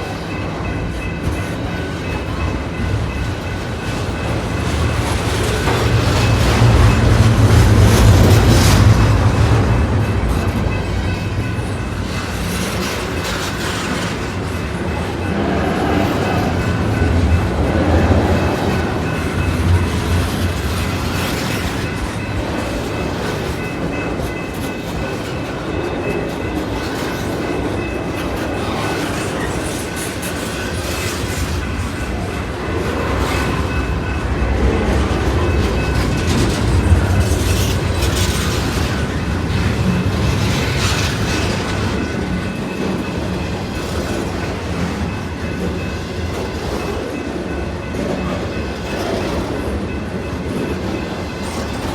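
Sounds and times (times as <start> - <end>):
freight train cars rolling past: 0.0 - 51.9
wheels clacking over rail joints: 0.0 - 51.9.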